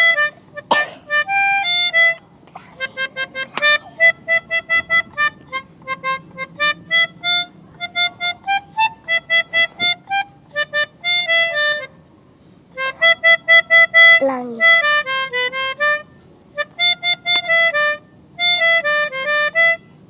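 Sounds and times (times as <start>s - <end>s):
melodica playing a quick tune: 0.0s - 12.0s, 12.7s - 20.0s.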